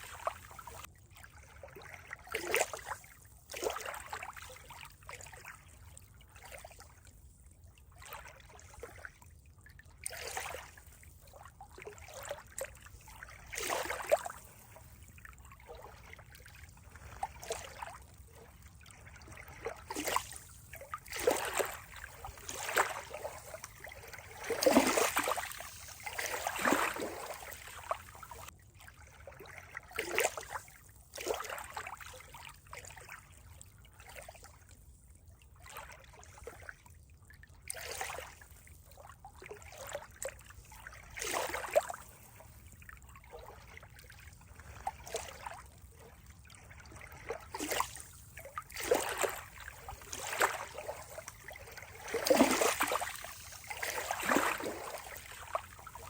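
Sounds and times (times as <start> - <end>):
water splashing and gurgling: 0.0 - 6.9, 7.9 - 34.6, 37.6 - 56.0.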